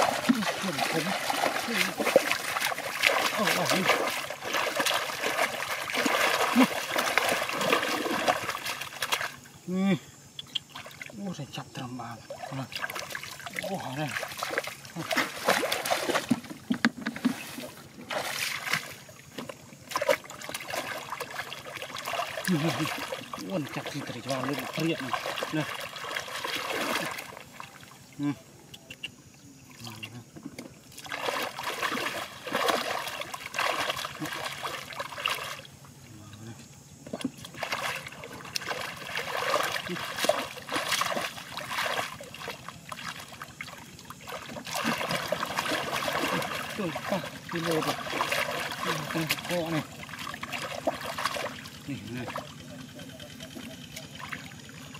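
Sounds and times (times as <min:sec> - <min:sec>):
muddy water sloshing and splashing: 0:00.0 - 0:10.0, 0:10.6 - 0:54.9.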